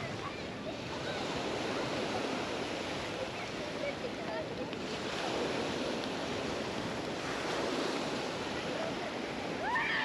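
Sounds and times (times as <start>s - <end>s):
waves washing onto beach: 0.0s - 10.0s.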